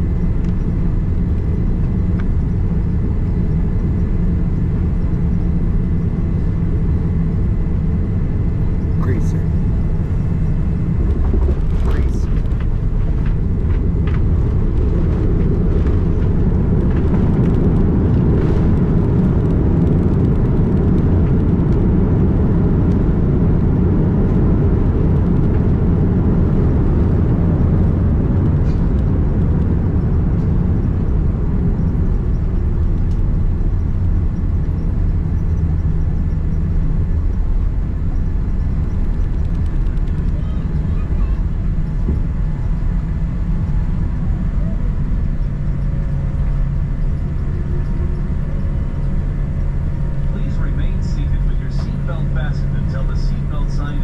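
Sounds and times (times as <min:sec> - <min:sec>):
low rumble of engines and tyres: 0:00.0 - 0:54.0.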